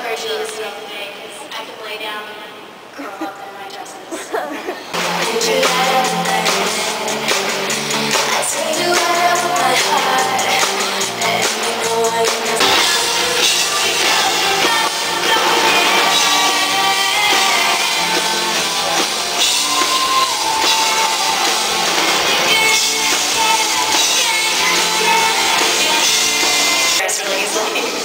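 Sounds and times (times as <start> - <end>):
pop-rock band playing: 4.9 - 27.7
person singing: 5.0 - 27.8.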